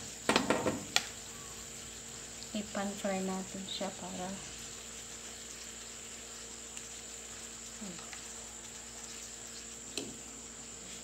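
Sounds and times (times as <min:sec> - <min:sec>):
faint steady hum: 0:00.0 - 0:11.0
meat sizzling in a frying pan: 0:00.0 - 0:11.0.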